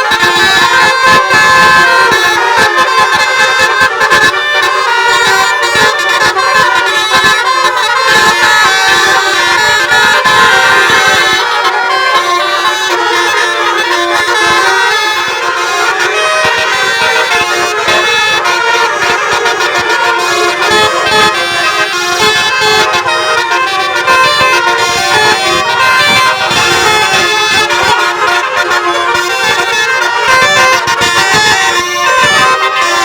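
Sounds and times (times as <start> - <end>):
musical air horns: 0.0 - 33.0.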